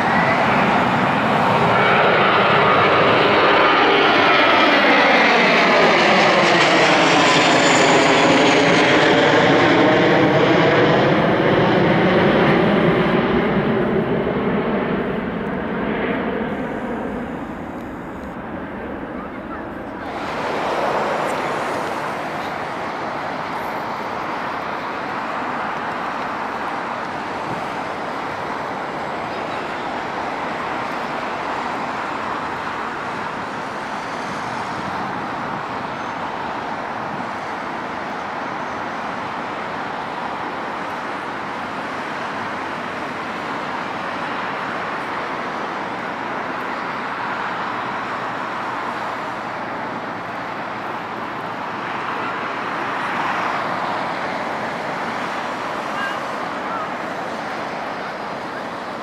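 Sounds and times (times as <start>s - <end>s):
distant jet engine: 0.0s - 59.0s
road traffic roar: 0.0s - 59.0s.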